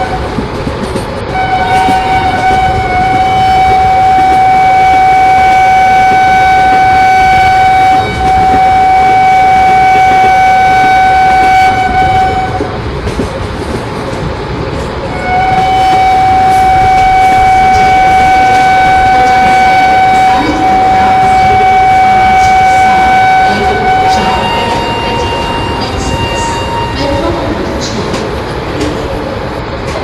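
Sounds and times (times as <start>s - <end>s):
train horn blast: 0.0s - 0.4s, 1.3s - 12.8s, 15.1s - 27.7s
running train rumble: 0.0s - 30.0s.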